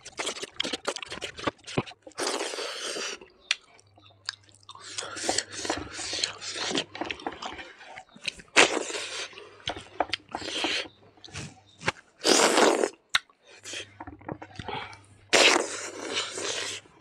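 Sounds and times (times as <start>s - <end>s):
wet chewing and mouth-smacking: 0.0s - 17.0s.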